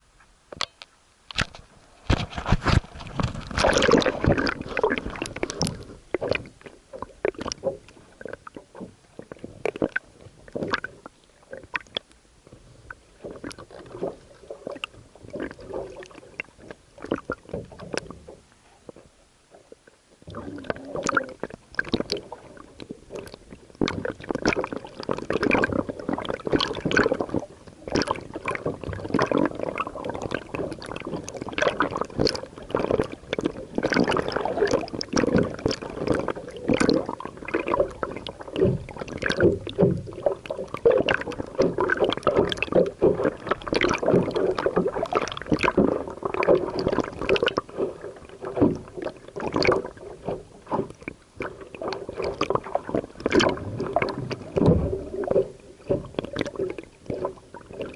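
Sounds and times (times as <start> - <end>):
water splashing and sloshing: 0.0 - 57.9.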